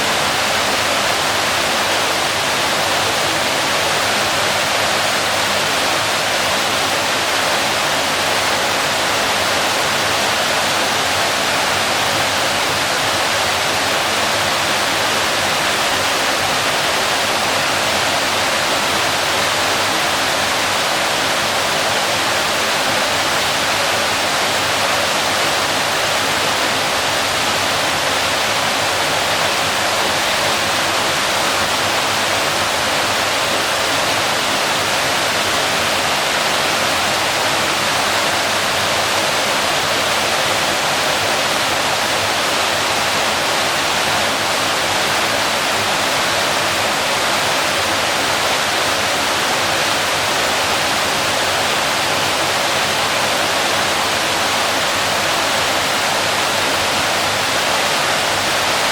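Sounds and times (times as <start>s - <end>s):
waterfall pouring and splashing: 0.0s - 58.9s.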